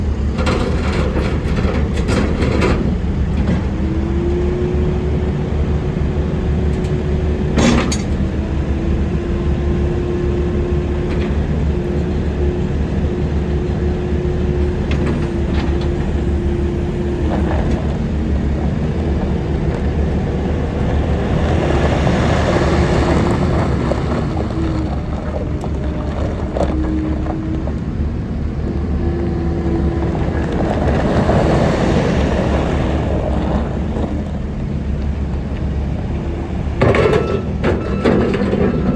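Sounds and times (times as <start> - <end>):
engine whine: 0.0 - 38.9
loader diesel engine running: 0.0 - 38.9.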